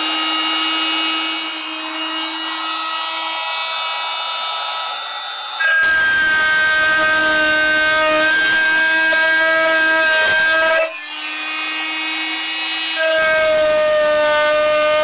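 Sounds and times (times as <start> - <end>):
drilling machine whine: 0.0 - 15.0.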